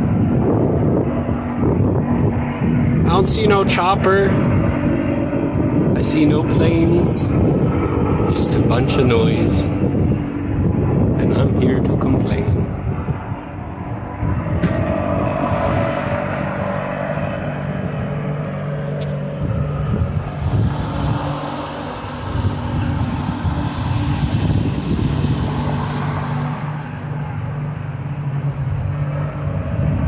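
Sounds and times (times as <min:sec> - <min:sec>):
droning rumble overhead: 0:00.0 - 0:30.0
low hum: 0:00.0 - 0:30.0
rushing noise: 0:00.0 - 0:30.0.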